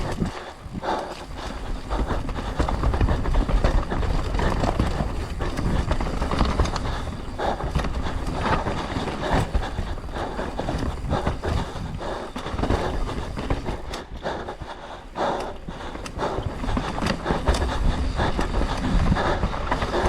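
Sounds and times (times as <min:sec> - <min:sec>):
bike tyres rolling over dirt and rocks: 0:00.0 - 0:20.0.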